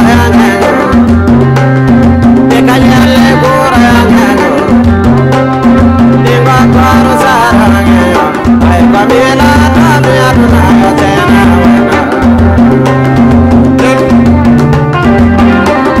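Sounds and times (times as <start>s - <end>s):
repeating bass line: 0.0s - 16.0s
steady drum beat: 0.0s - 16.0s.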